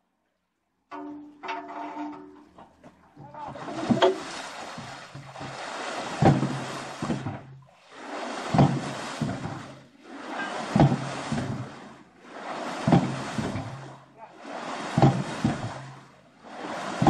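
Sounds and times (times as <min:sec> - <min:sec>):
water rushing out of valve: 0:01.1 - 0:17.0.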